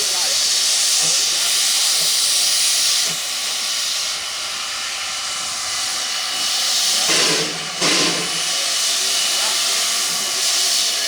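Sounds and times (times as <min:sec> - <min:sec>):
steam blasts: 0:00.0 - 0:11.0
steam hissing: 0:00.0 - 0:11.0.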